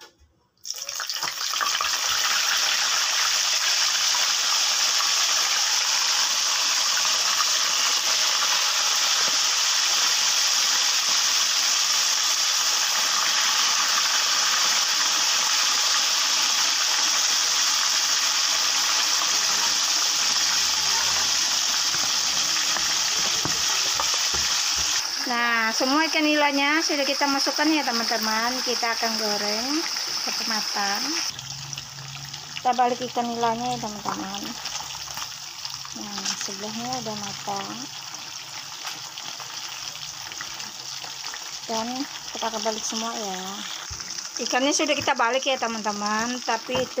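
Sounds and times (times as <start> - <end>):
fish deep-frying in hot oil: 0.6 - 47.0.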